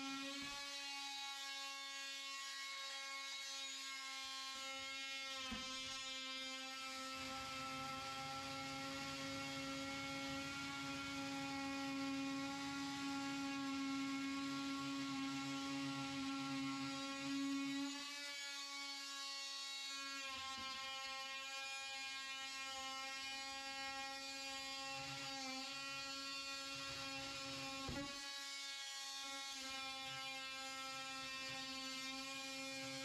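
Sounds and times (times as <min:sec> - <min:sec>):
blade cutting drywall: 0:00.0 - 0:33.0
oscillating multi-tool buzzing: 0:00.0 - 0:33.0.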